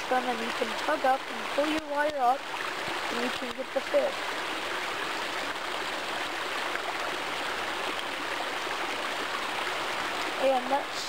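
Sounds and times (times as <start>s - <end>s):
stream flowing over rocks: 0.0s - 11.0s.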